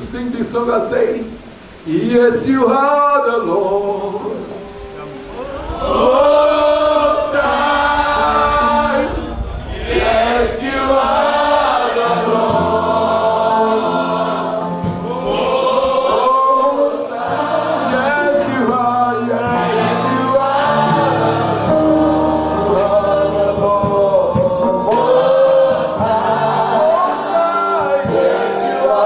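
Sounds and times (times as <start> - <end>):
man singing lead: 1.3 - 29.0
low held notes: 3.3 - 29.0
women backing singers: 4.0 - 29.0.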